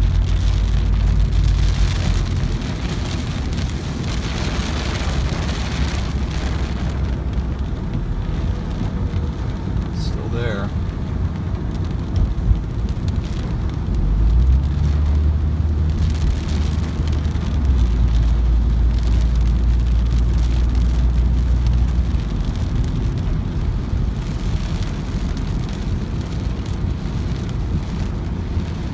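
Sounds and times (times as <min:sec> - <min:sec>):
rain pattering on a car: 0:00.0 - 0:28.9
wind and road noise rumble: 0:00.0 - 0:28.9.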